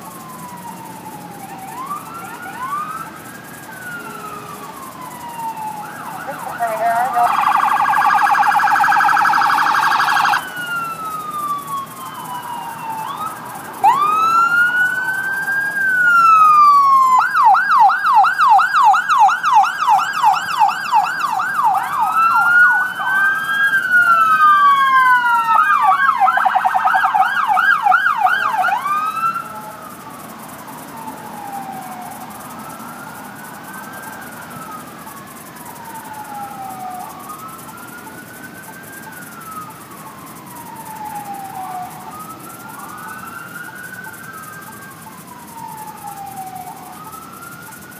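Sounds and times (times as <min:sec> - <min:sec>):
police sirens wailing and yelping: 0:00.0 - 0:47.9.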